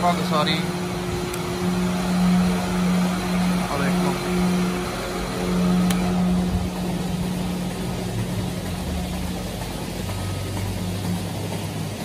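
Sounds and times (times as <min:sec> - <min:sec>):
milking machinery hum: 0:00.0 - 0:12.0.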